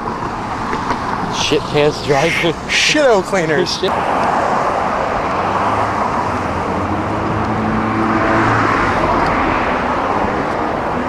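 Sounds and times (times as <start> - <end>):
street traffic noise: 0.0 - 11.0
vehicle engine hum: 0.0 - 11.0.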